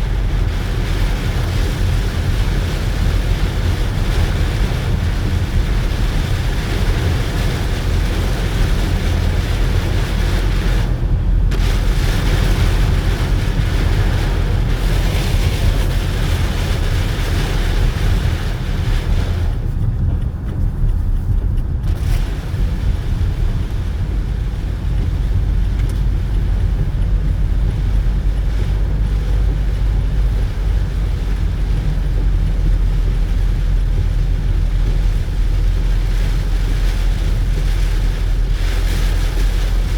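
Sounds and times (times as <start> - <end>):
car driving in rain: 0.0 - 39.9.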